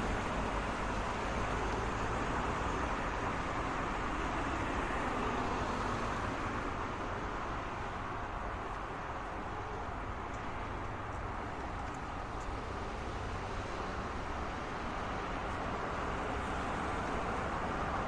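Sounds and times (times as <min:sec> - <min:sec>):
passing cars: 0:00.0 - 0:18.0.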